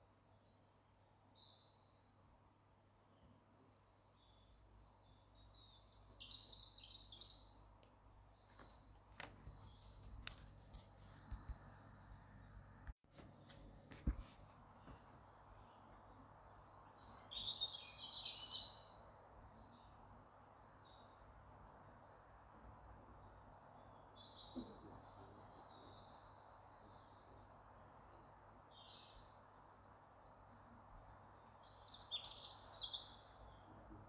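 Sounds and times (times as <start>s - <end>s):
faint outdoor background noise: 0.0s - 34.0s
songbirds chirping: 0.0s - 34.0s.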